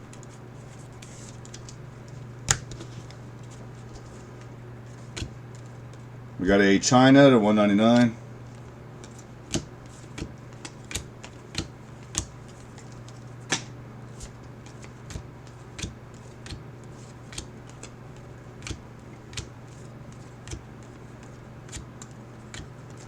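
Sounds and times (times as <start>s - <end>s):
cards flipping with light clicks: 0.0s - 6.0s, 7.9s - 23.0s
low electrical hum: 0.0s - 23.0s.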